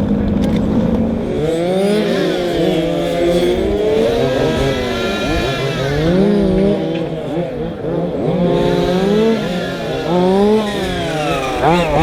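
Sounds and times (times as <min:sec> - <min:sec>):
model racing car motors whining: 0:00.0 - 0:12.0.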